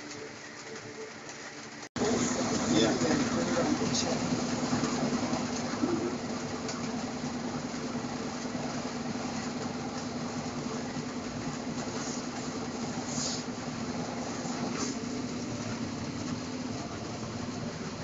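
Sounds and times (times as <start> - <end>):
ferry engine drone: 0.0 - 18.0.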